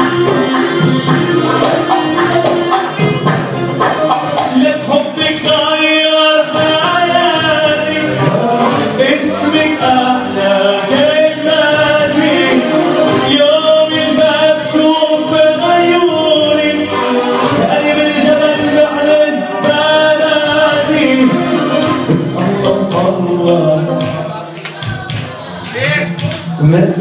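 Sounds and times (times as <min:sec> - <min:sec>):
band playing pop music: 0:00.0 - 0:27.0
man singing: 0:04.0 - 0:27.0.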